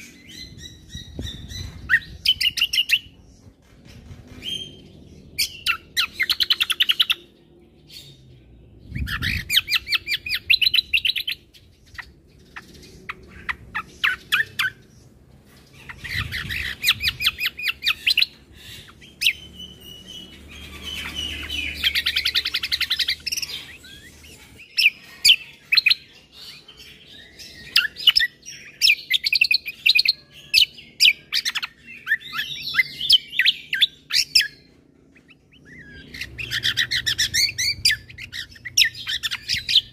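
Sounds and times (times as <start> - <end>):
bird singing chattering trills: 0.0 - 3.6, 4.3 - 39.9.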